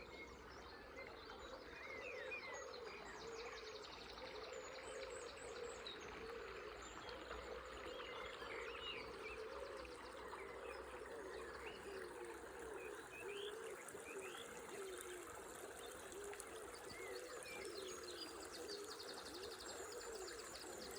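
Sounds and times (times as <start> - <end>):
river water gurgling: 0.0 - 20.9.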